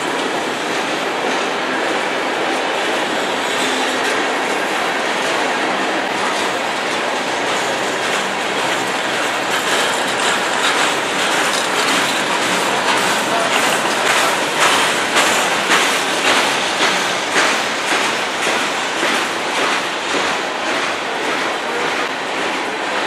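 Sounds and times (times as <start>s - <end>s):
freight train wheels rumbling: 0.0s - 23.0s
wheels clicking over rail joints: 3.3s - 23.0s.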